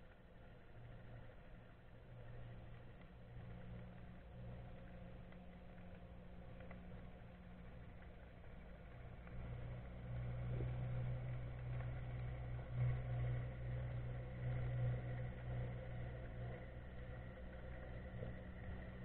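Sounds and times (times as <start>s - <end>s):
boat engine hum underwater: 0.0s - 19.0s.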